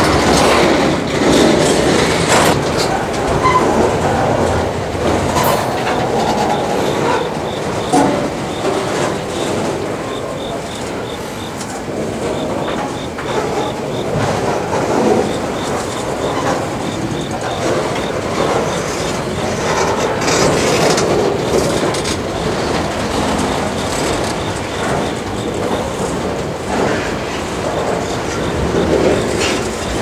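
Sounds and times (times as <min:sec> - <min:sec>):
freight train rumbling: 0:00.0 - 0:30.0
wheels clacking over rail joints: 0:00.0 - 0:30.0.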